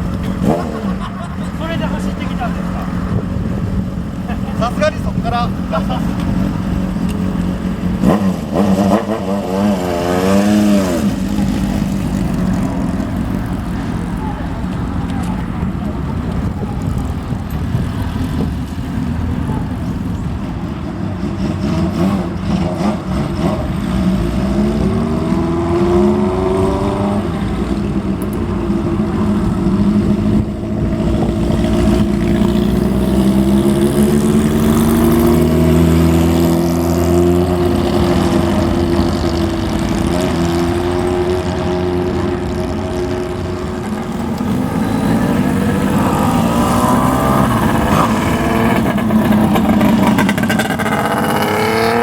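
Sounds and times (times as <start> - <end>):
motorcycles revving and passing: 0.0 - 52.0.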